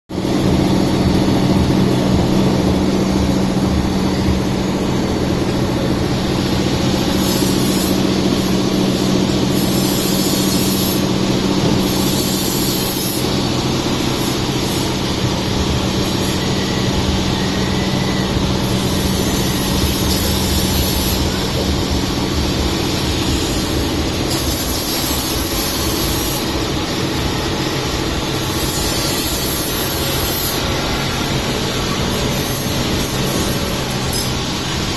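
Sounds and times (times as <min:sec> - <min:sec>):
machine hum: 0:00.1 - 0:34.9
bursts of high hiss: 0:00.2 - 0:34.9.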